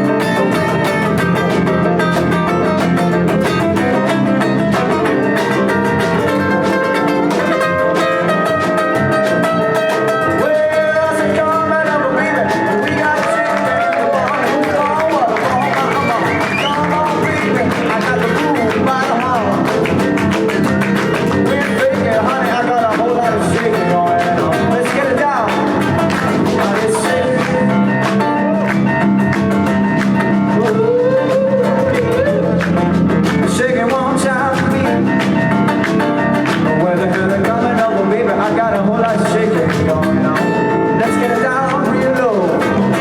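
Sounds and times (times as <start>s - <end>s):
guitar: 0.0s - 43.0s
live band playing: 0.0s - 43.0s.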